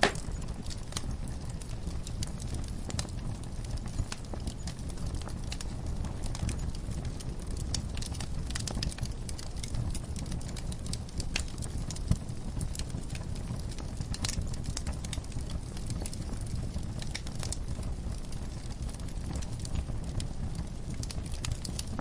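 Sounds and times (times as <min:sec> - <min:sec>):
rumble of flames: 0:00.0 - 0:22.0
wood fire crackling and popping: 0:00.0 - 0:22.0.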